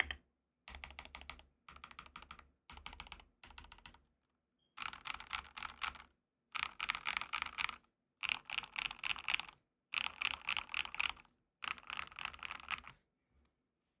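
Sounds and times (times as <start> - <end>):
mechanical keyboard typing: 0.0 - 4.0, 4.8 - 6.0, 6.6 - 12.9.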